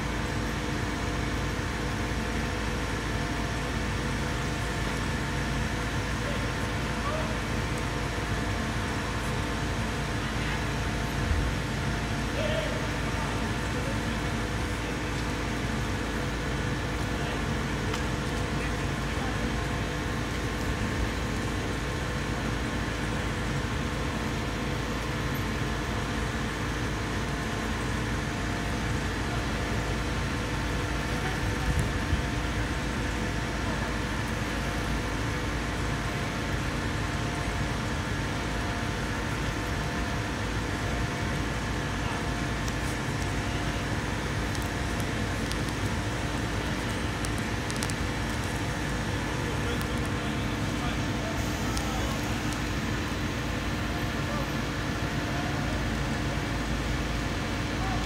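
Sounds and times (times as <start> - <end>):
crane diesel engine droning: 0.0 - 58.0.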